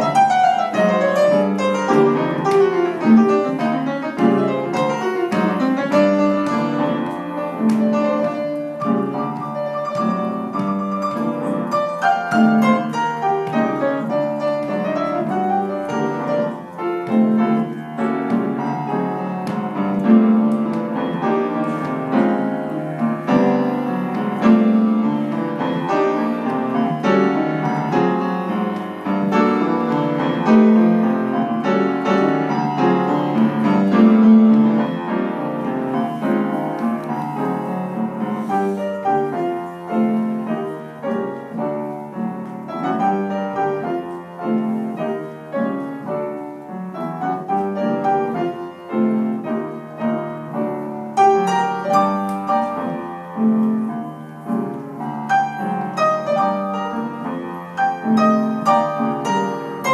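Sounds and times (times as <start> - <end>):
solo piano playing: 0.0 - 59.9.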